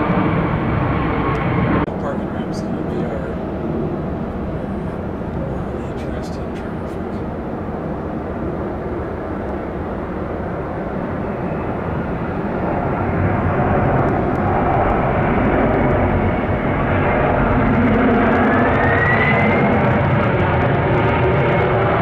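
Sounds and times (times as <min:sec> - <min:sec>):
jet engines and airframe rumbling: 0:00.0 - 0:22.0.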